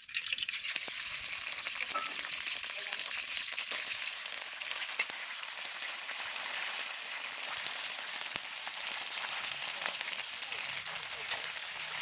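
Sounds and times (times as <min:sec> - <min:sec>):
insects frying in oil: 0:00.0 - 0:12.0.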